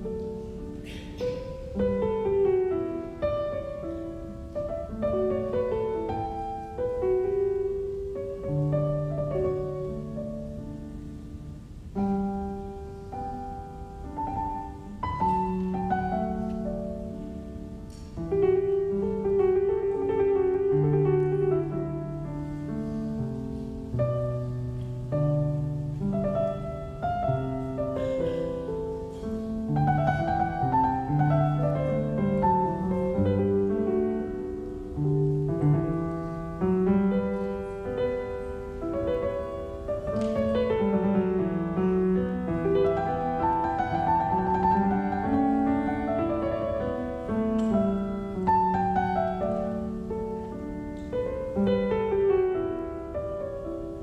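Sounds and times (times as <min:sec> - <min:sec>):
classical piano music: 0:00.0 - 0:54.0.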